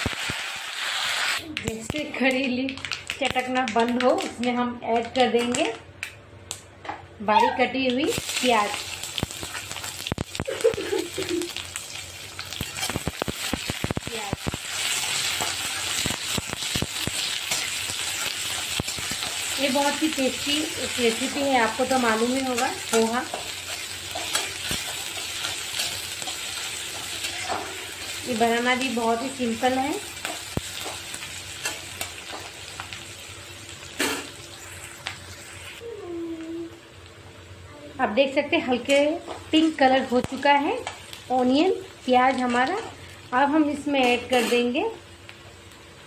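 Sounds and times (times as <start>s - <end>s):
onions sizzling in hot oil: 0.0s - 2.4s, 7.9s - 37.1s, 38.2s - 46.0s.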